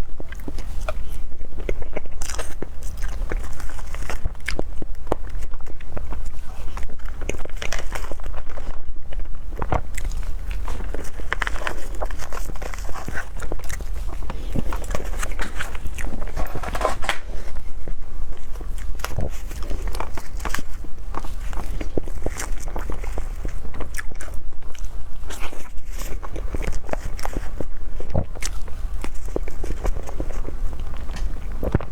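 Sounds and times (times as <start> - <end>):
small clicks and crackles: 0.0 - 17.5, 18.3 - 31.9
chewing and biting: 0.0 - 31.9
steady low hum: 0.0 - 31.9.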